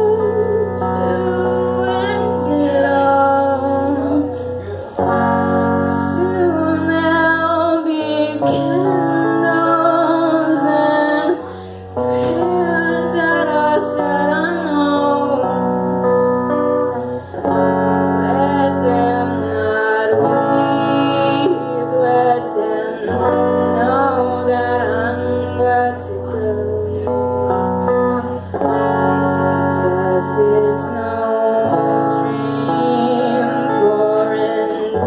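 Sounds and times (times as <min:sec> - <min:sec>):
electric guitar strumming: 0:00.0 - 0:35.0
woman singing: 0:00.0 - 0:35.0.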